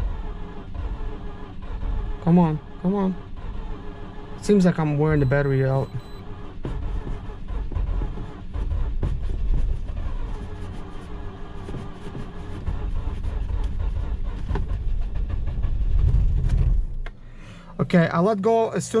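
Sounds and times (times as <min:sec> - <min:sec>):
engine cranking on starter: 0:00.0 - 0:17.7.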